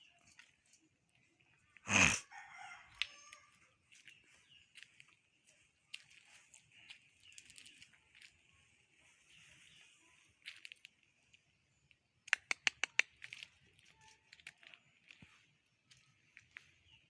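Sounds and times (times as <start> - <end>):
faint clicks and rustles: 3.0 - 17.0.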